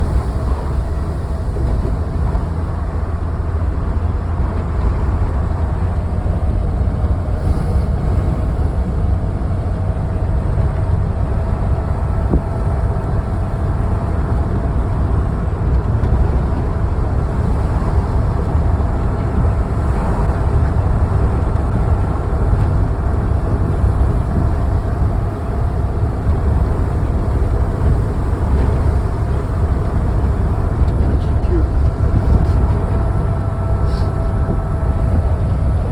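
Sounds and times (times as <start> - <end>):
faint engine hum: 0.0 - 35.9
wind rushing over microphone: 0.0 - 35.9.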